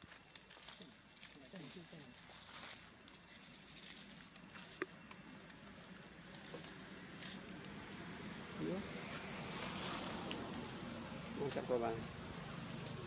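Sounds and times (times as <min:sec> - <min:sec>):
monkeys rustling on branch: 0:00.0 - 0:13.0.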